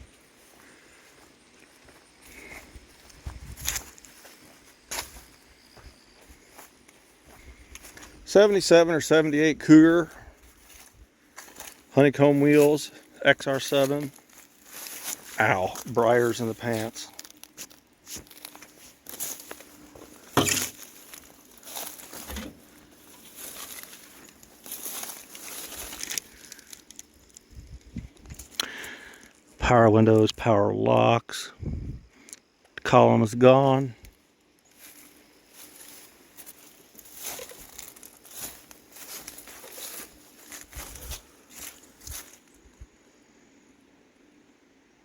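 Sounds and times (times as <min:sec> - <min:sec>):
footsteps crunching through dry weeds: 0:00.0 - 0:29.6, 0:34.1 - 0:42.9.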